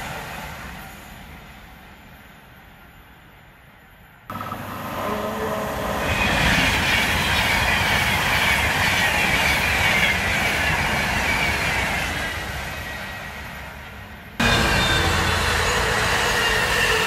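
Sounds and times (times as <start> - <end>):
electric train passing at speed: 0.0 - 17.0.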